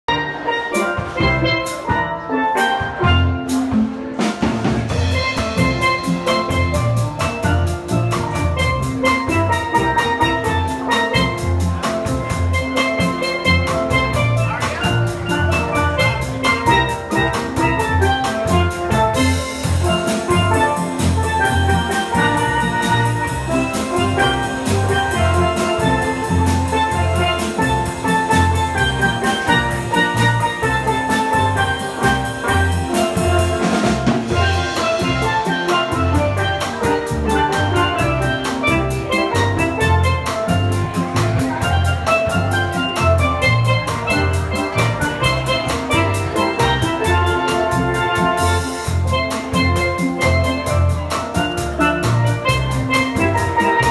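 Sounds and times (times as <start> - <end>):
drum kit beat: 0.0 - 53.9
steel pan melody: 0.0 - 53.9
low bass notes: 2.8 - 53.9.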